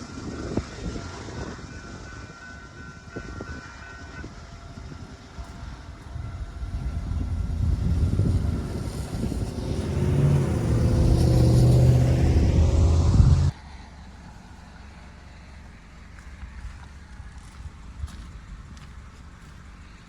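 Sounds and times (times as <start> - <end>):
train passing: 0.0 - 17.6
locomotive engine rumbling: 0.0 - 20.0.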